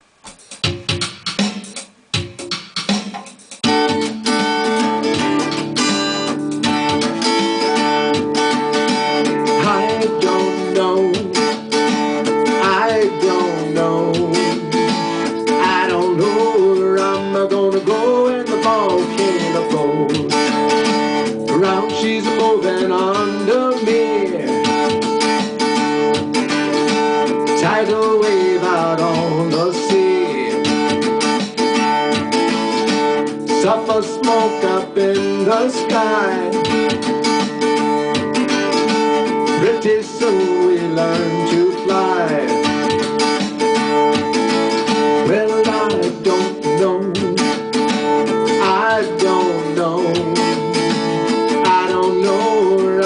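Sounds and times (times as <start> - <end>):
acoustic guitar strumming: 0.0 - 53.0
bending guitar lead melody: 0.6 - 53.0.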